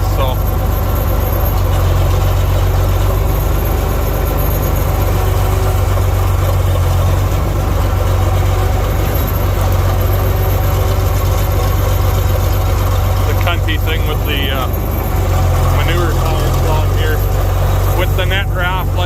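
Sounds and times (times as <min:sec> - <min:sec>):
tractor diesel engine humming: 0:00.0 - 0:19.0.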